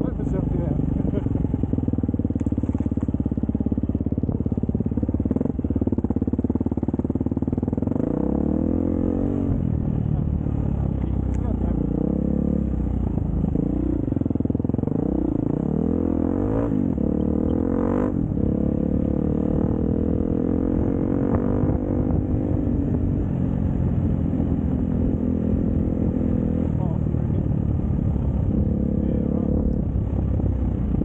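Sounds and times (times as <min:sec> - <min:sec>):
dirt bike engine: 0:00.0 - 0:31.0.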